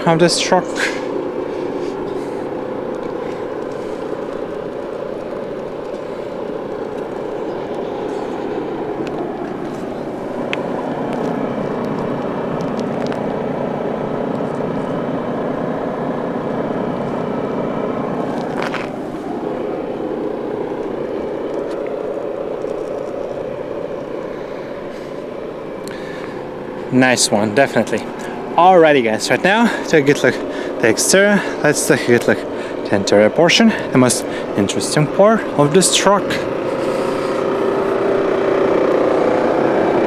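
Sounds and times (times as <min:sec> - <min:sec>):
truck diesel engine idling: 0:00.0 - 0:40.0.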